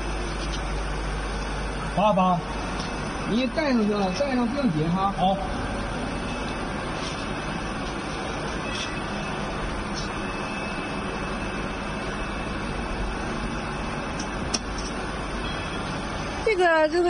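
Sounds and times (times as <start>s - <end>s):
factory machinery noise: 0.0s - 17.0s.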